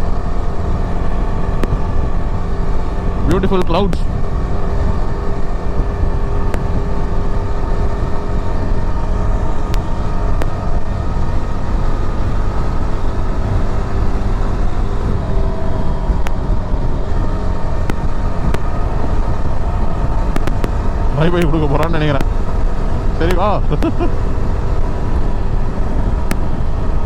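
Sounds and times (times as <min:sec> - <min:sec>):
motorcycle engine cruising: 0:00.0 - 0:27.0
wind rush on microphone: 0:00.0 - 0:27.0.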